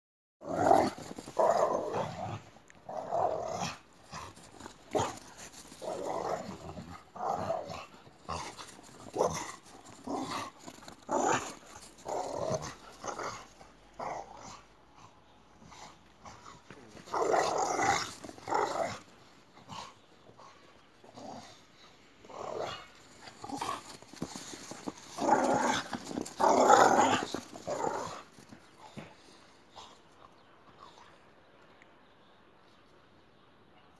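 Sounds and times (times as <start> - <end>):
dogs play-growling: 0.4 - 31.4.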